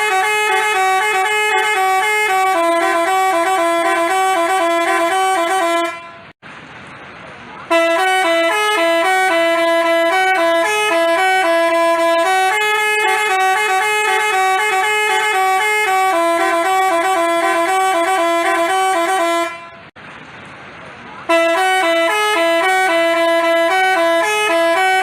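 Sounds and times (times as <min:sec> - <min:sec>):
bus horn playing melody: 0:00.0 - 0:06.4, 0:07.7 - 0:20.0, 0:21.3 - 0:25.0.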